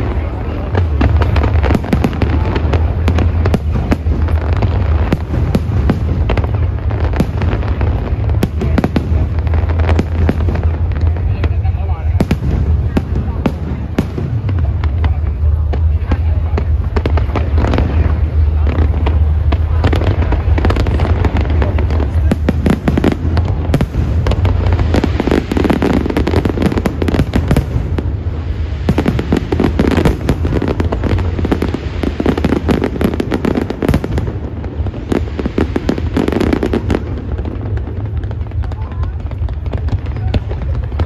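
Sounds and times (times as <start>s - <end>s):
fireworks bangs and crackles: 0.0s - 41.0s
low rumble: 0.0s - 41.0s.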